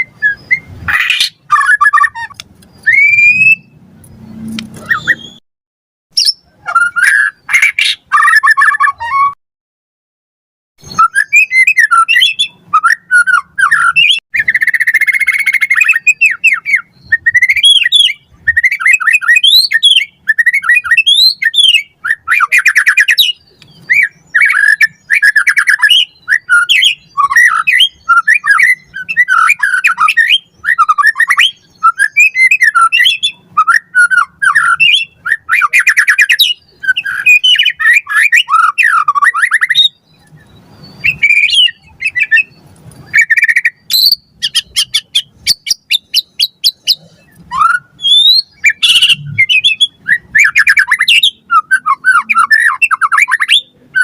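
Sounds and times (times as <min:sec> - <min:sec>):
bird singing whistles and trills: 0:00.0 - 0:05.4, 0:06.2 - 0:09.4, 0:10.8 - 0:54.0.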